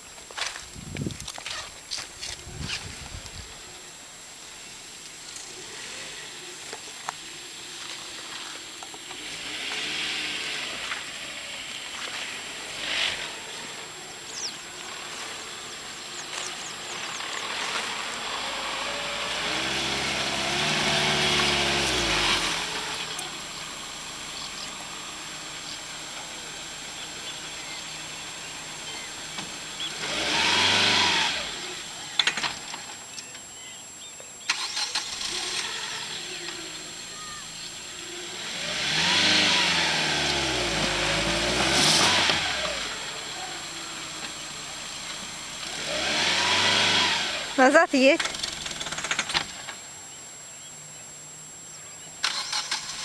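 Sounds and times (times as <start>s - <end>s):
engine revving: 5.3s - 33.0s, 34.5s - 49.8s, 52.2s - 53.0s.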